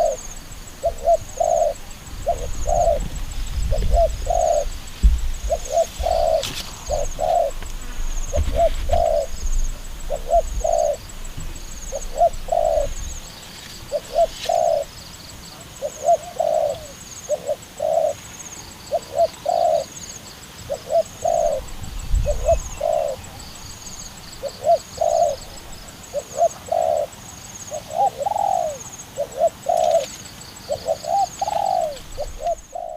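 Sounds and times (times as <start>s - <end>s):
dove cooing: 0.0s - 20.0s, 20.6s - 32.9s.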